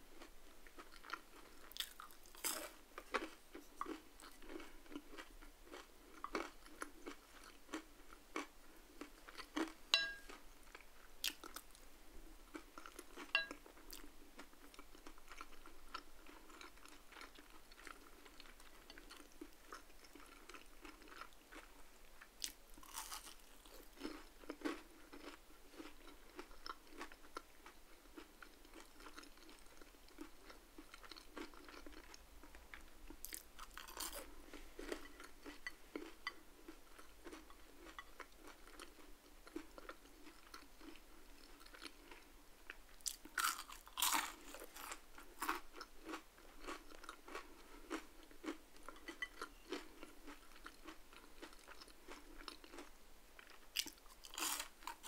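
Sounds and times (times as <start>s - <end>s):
chewing crispy food: 0.1s - 55.0s.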